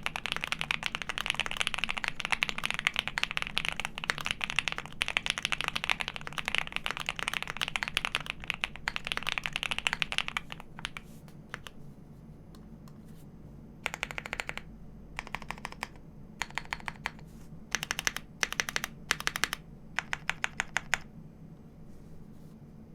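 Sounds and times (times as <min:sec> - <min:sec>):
mechanical keyboard typing: 0:00.0 - 0:11.8, 0:13.8 - 0:21.1.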